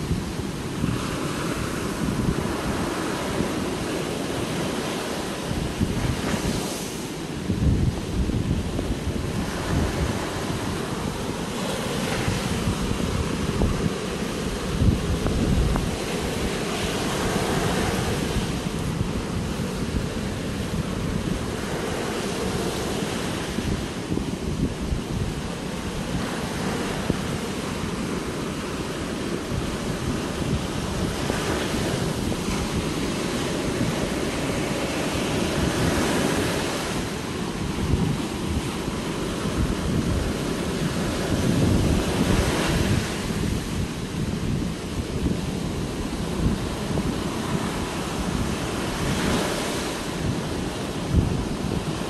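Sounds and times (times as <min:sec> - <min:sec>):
surf breaking on a beach: 0:00.0 - 0:52.0
wind rumbling on microphone: 0:00.0 - 0:52.0.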